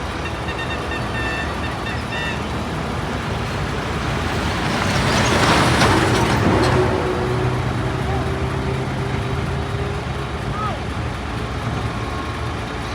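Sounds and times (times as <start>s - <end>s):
heavy truck engines running: 0.0s - 12.9s.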